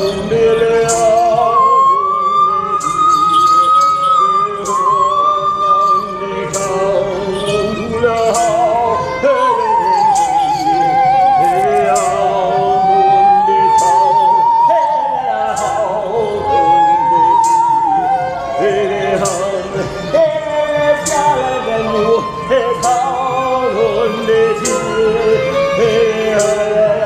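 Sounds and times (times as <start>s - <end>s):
lower accompanying line: 0.0s - 27.0s
operatic high voice singing: 0.0s - 27.0s.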